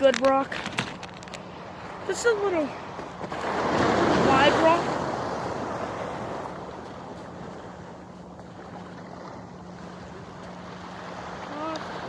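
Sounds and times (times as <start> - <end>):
water at shoreline: 0.0 - 12.0.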